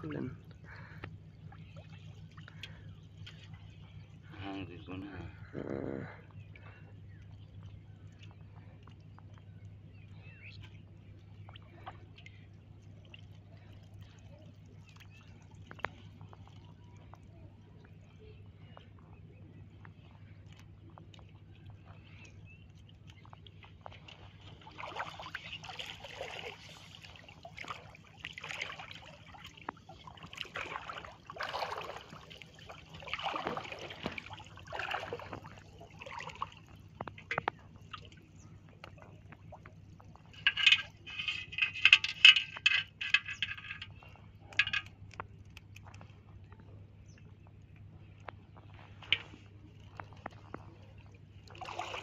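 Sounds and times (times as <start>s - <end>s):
water sloshing and splashing: 0.0s - 5.5s, 6.3s - 52.0s
low steady hum: 0.0s - 52.0s.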